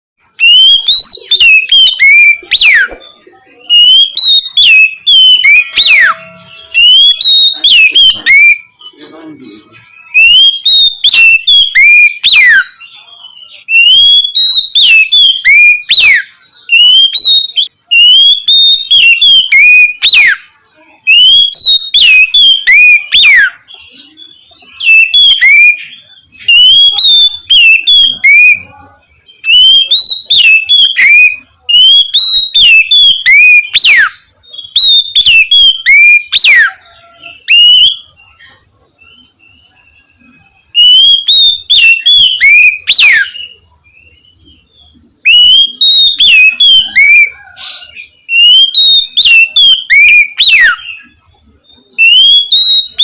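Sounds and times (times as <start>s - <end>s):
bird singing whistles: 0.2s - 53.0s.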